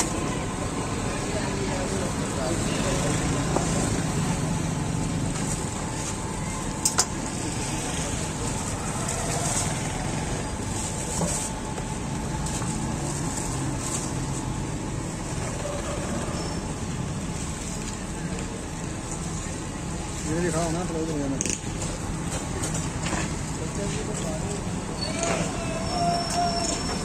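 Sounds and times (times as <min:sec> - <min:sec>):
busy food stall din: 0:00.0 - 0:27.0.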